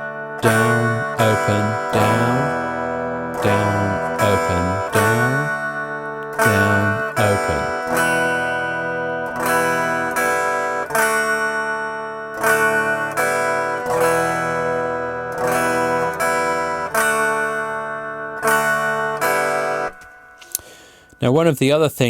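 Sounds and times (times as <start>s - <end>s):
acoustic guitar strummed: 0.0s - 21.5s.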